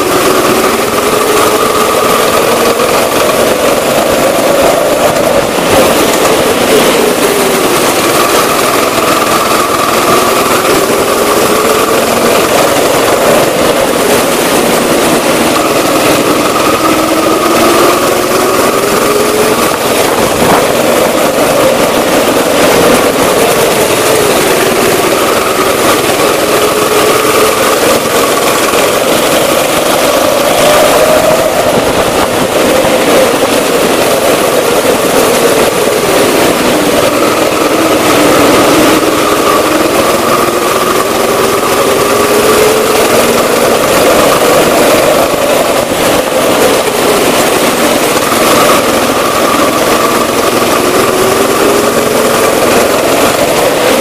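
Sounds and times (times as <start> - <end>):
go-kart motor at speed: 0.0 - 54.0.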